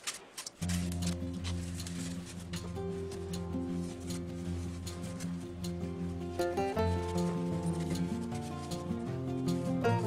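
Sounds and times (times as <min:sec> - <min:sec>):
background music low chords: 0:00.6 - 0:10.0.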